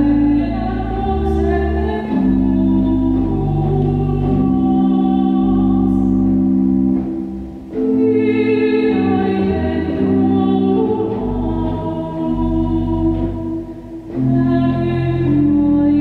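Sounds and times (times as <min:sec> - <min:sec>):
organ chords: 0:00.0 - 0:16.0
person singing long notes: 0:00.0 - 0:16.0.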